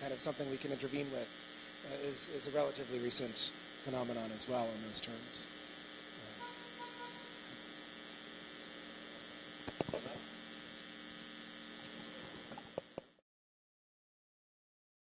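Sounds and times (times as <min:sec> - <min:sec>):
electrical mains hum: 0:00.0 - 0:13.2.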